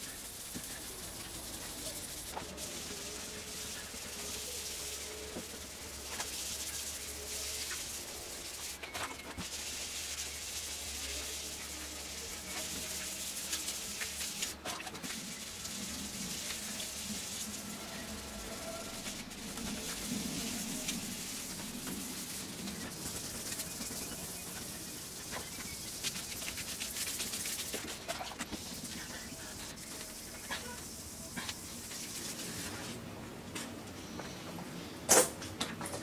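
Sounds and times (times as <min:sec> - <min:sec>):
wet sanding by hand: 0:00.0 - 0:32.9.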